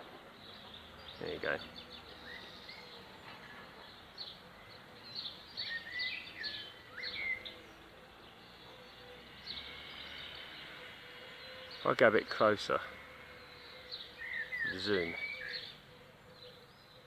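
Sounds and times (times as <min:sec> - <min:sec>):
faint outdoor background noise: 0:00.0 - 0:17.0
small bird chirping: 0:00.3 - 0:17.0.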